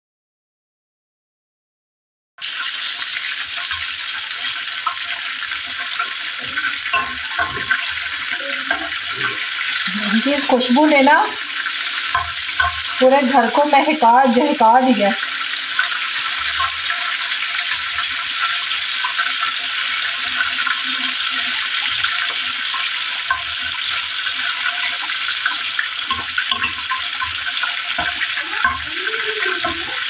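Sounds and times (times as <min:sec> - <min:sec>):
food sizzling in hot oil: 0:02.4 - 0:30.0.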